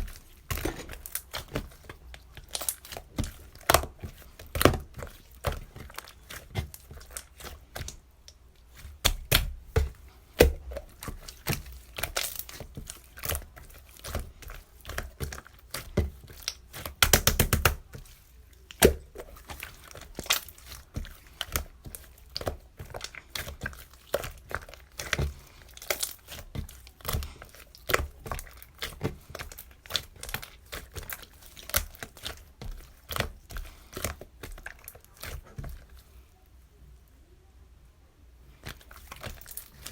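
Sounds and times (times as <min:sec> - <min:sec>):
crinkling and crackling handling: 0:00.0 - 0:37.1, 0:38.4 - 0:39.9.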